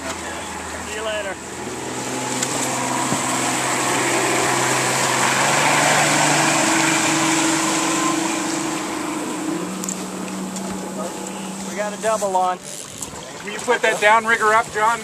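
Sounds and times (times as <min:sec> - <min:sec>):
outboard motor running: 0:00.0 - 0:15.0
propeller churning water: 0:00.0 - 0:15.0.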